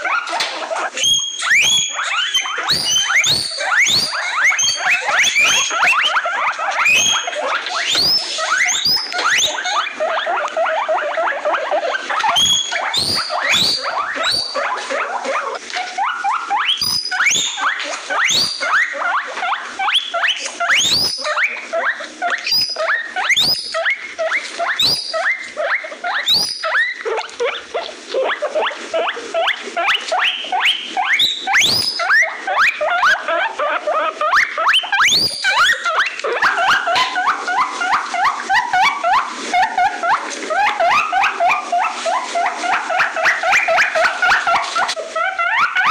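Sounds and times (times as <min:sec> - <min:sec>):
guinea pigs chattering squeaks: 0:00.0 - 0:45.9
guinea pigs squealing: 0:00.0 - 0:45.9.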